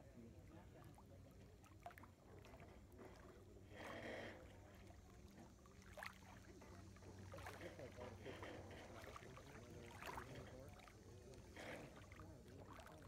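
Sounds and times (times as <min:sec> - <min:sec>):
lake water lapping at shore: 0:00.0 - 0:13.0.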